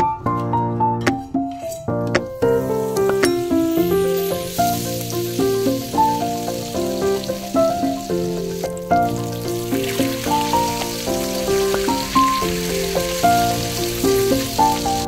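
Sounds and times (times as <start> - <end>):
gentle background music: 0.0 - 15.0
meat sizzling in a frying pan: 2.5 - 15.0.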